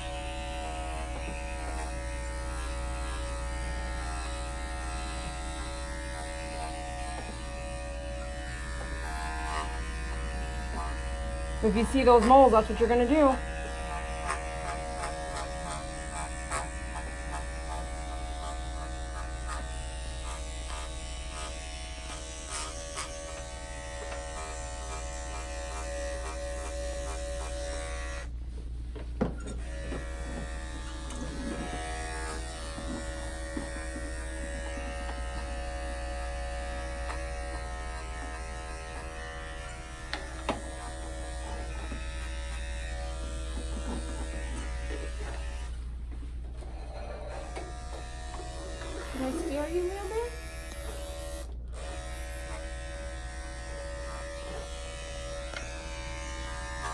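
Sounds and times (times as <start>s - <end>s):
electric clippers running: 0.0s - 28.4s, 29.5s - 56.9s.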